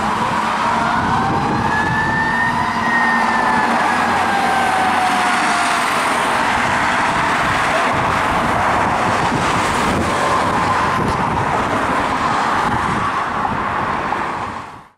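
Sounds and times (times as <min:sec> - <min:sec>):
cars passing by: 0:00.0 - 0:14.9.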